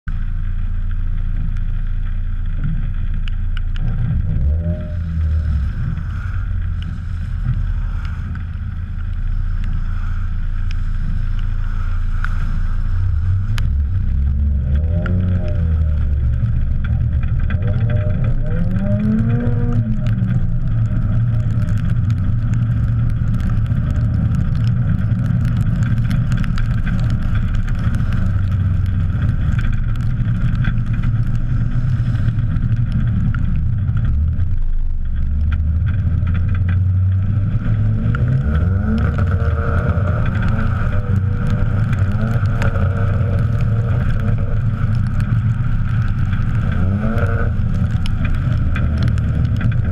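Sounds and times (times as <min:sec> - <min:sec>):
road and wind noise: 0:00.0 - 0:49.9
car engine revving: 0:00.4 - 0:49.9.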